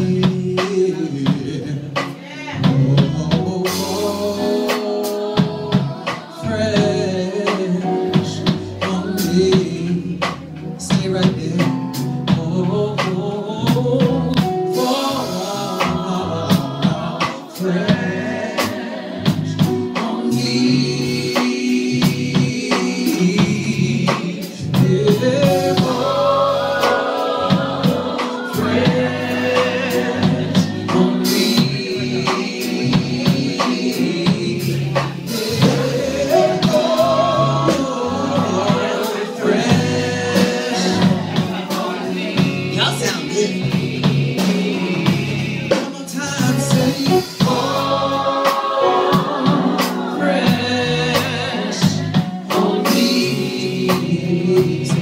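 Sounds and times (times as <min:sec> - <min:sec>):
band playing: 0:00.0 - 0:55.0
drum kit beat: 0:00.0 - 0:55.0.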